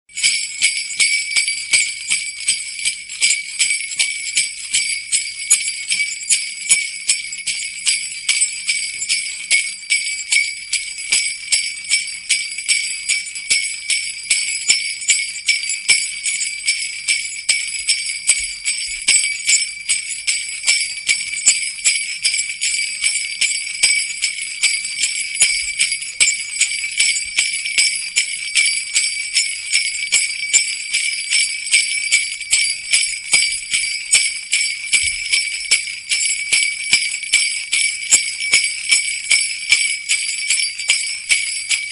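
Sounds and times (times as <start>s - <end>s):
sleigh bells jingling: 0.1s - 41.9s.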